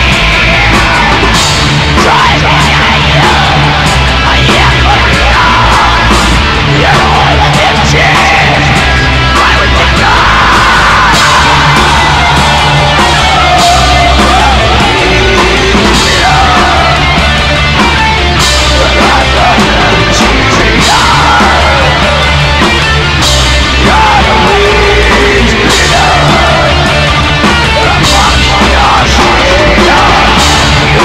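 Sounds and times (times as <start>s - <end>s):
heavy rock song: 0.0s - 31.0s
yelled vocals: 0.0s - 31.0s.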